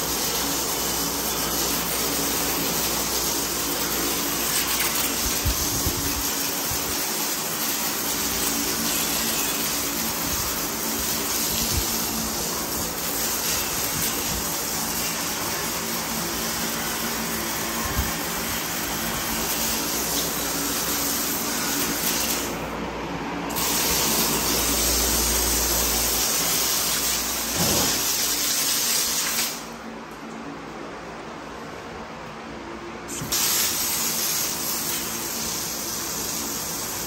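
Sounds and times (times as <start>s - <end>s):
hose water spraying: 0.0s - 22.6s, 23.5s - 29.7s, 33.1s - 37.0s.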